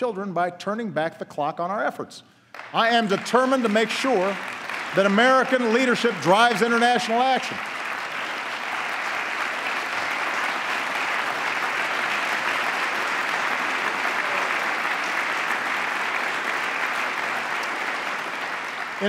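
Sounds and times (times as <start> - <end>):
large audience applauding: 2.5 - 19.0.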